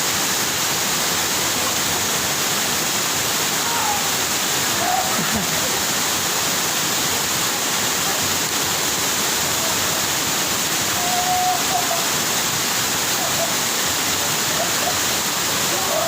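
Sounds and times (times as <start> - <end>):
rush of fast-flowing water: 0.0 - 16.0.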